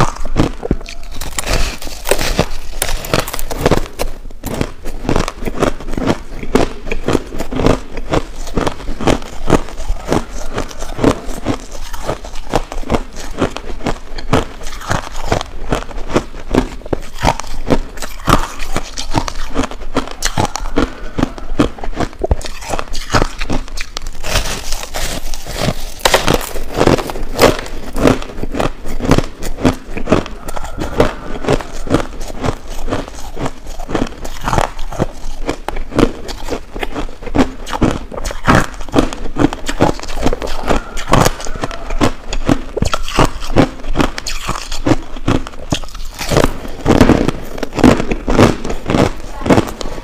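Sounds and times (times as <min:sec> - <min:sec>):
person chewing crushed ice: 0:00.0 - 0:50.0.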